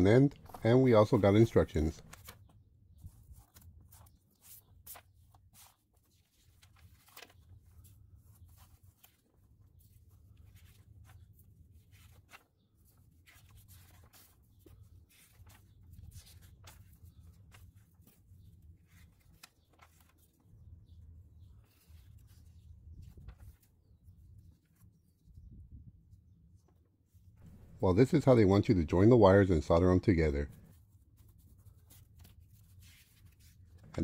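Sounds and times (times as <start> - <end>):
paper and parts rustling: 0.0 - 24.8, 30.7 - 34.0.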